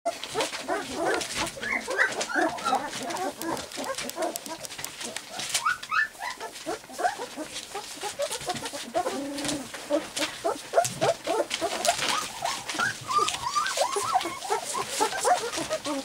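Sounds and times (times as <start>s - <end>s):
newspaper crinkling: 0.1s - 16.0s
puppies whimpering and yipping: 0.1s - 16.0s.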